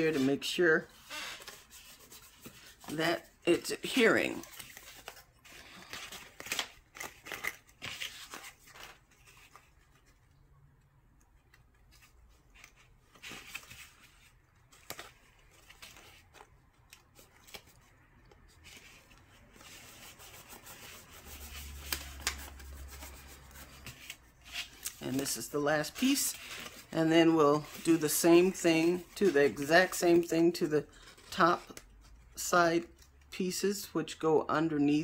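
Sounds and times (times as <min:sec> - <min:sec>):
cardstock rustling and creasing: 0:00.0 - 0:10.3, 0:11.2 - 0:33.3.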